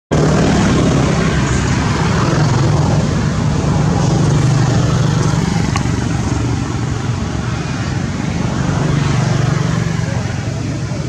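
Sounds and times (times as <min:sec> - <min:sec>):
low engine drone: 0:00.1 - 0:11.0
rushing noise: 0:00.1 - 0:11.0.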